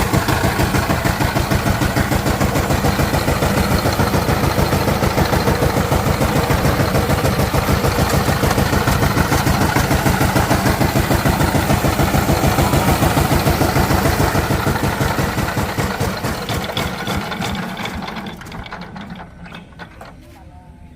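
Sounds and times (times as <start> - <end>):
diesel tiller engine running: 0.0 - 20.4.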